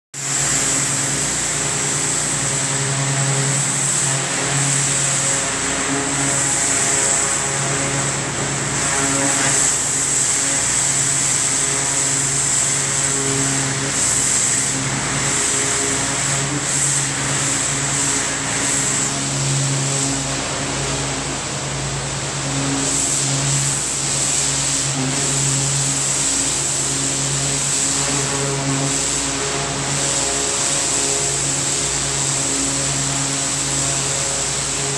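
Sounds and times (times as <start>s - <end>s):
engine-like drone: 0.2s - 34.9s
pressure washer water jet hissing: 0.2s - 34.9s.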